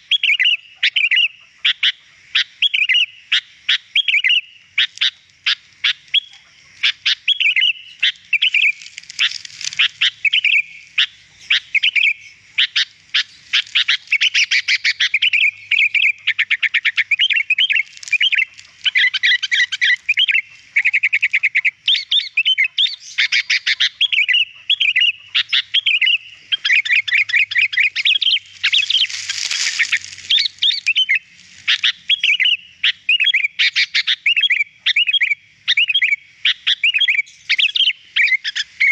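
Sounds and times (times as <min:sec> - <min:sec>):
bulbul singing: 0:02.6 - 0:38.9.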